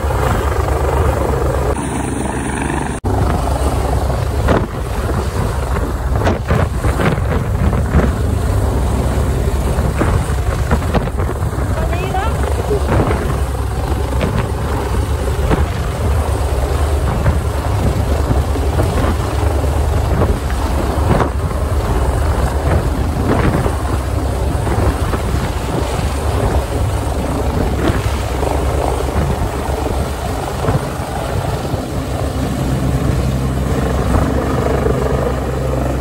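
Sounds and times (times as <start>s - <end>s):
helicopter flying overhead: 0.0s - 36.0s
wind buffeting microphone: 0.0s - 36.0s.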